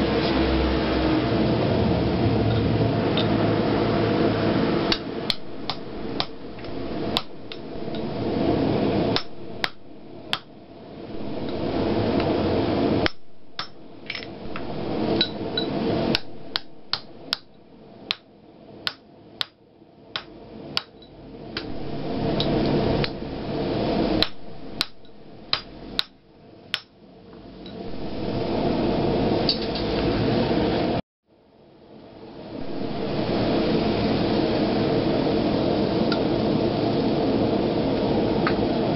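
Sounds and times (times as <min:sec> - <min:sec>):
steady rushing noise: 0:00.0 - 0:31.0, 0:31.8 - 0:38.9.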